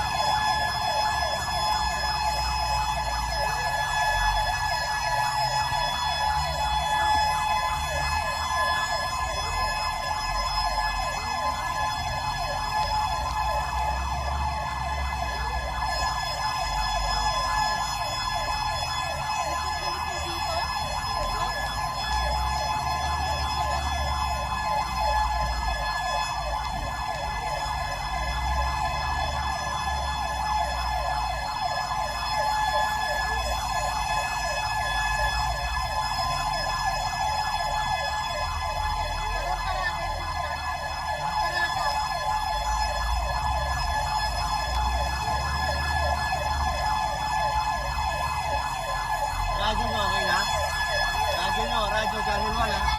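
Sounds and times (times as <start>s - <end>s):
siren warbling: 0.0s - 52.9s.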